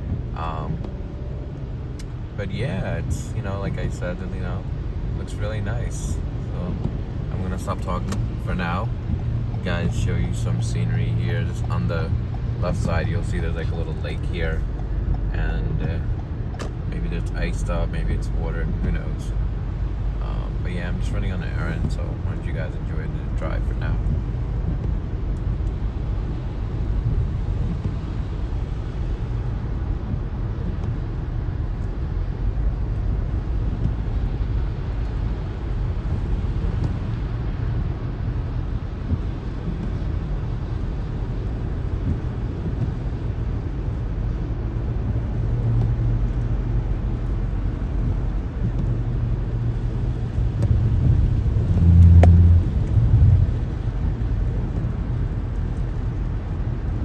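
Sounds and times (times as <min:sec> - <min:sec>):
car engine and tyre rumble: 0:00.0 - 0:57.0
loud low hum: 0:00.0 - 0:57.0.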